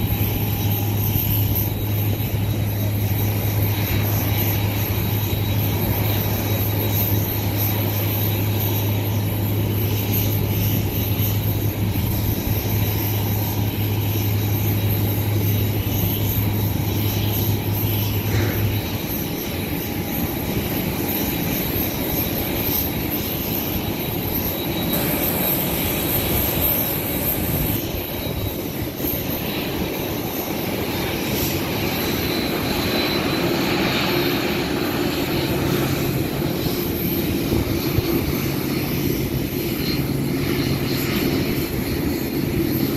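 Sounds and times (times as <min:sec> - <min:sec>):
jet engines running: 0:00.0 - 0:42.9
steady low hum: 0:00.0 - 0:42.9.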